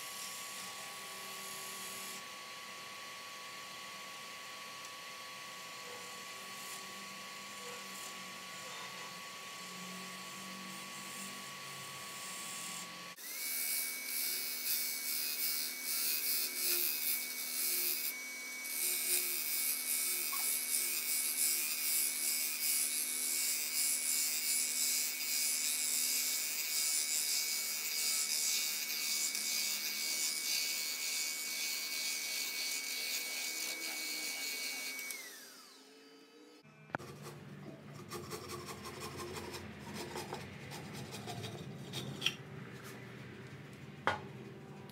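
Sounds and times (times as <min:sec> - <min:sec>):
wood lathe motor whine: 0:00.0 - 0:37.1
turning tool cutting wood: 0:03.0 - 0:42.4.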